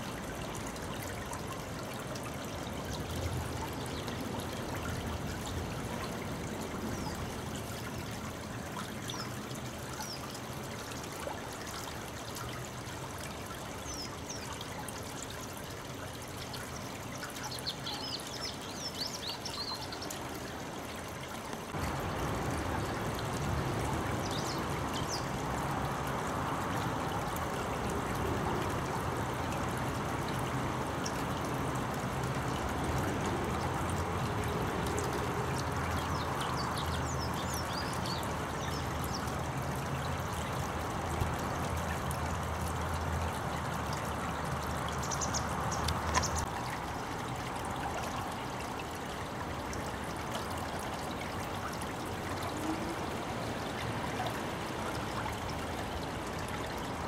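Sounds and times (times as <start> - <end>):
river water trickling over stones: 0.0 - 57.0.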